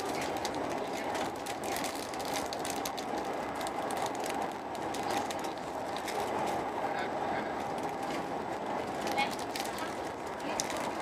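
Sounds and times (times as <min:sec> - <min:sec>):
train rumble and hiss: 0:00.0 - 0:11.0.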